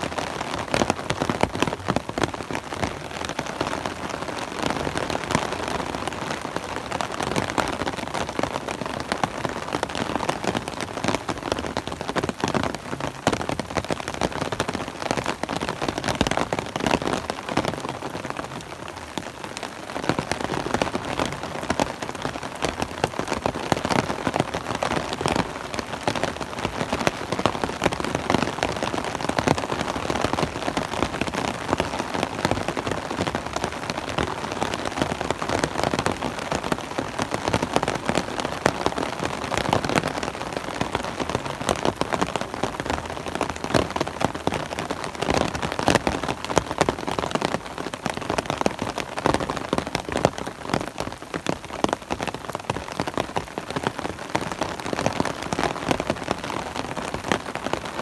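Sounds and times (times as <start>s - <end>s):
rain pattering on an umbrella: 0.0s - 58.0s.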